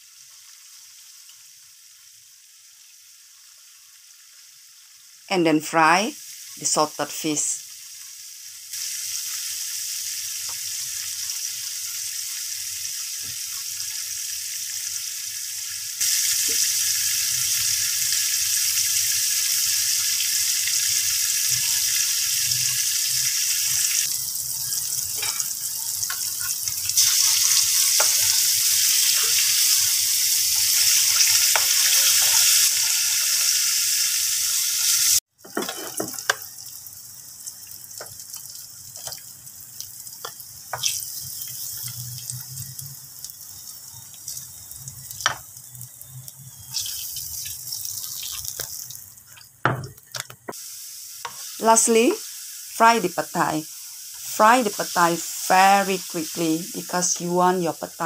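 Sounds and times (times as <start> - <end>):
fish deep-frying in hot oil: 0.0 - 58.0.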